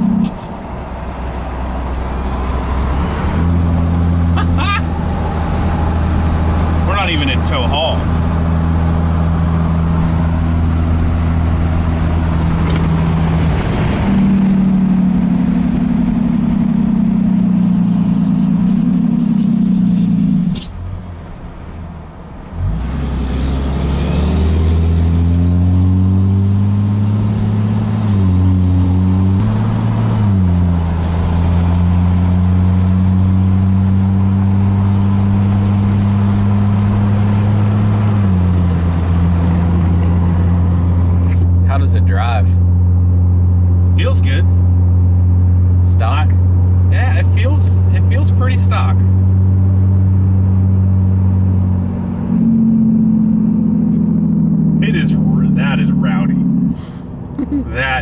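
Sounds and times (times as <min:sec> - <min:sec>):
diesel truck engine accelerating: 0:00.0 - 0:58.0.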